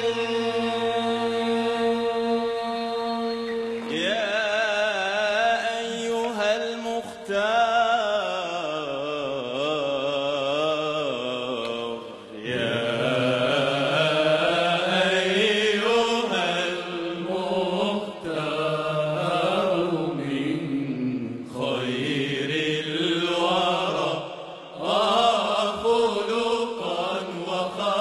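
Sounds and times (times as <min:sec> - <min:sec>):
man singing religious chant: 0:00.0 - 0:28.0.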